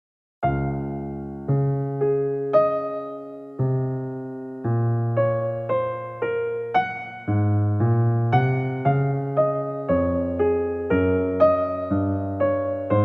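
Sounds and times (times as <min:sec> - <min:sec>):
electric piano music: 0:00.4 - 0:13.0.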